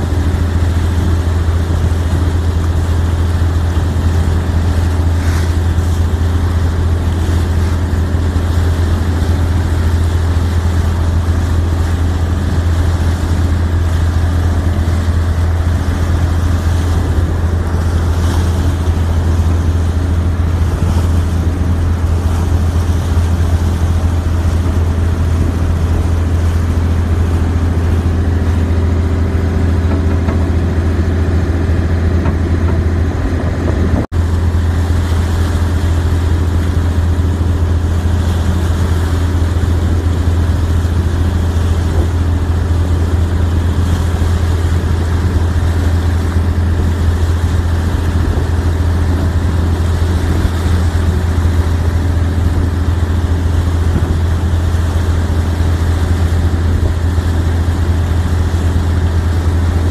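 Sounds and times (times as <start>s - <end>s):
boat engine droning: 0.0s - 59.9s
water and wind noise: 0.0s - 59.9s.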